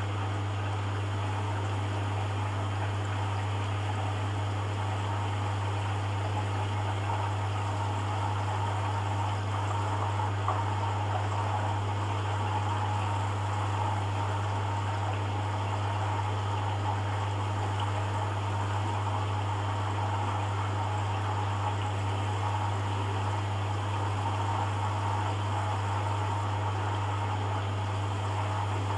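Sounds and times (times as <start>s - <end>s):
low machine hum: 0.0s - 28.9s
water running in washing machine: 0.0s - 28.9s.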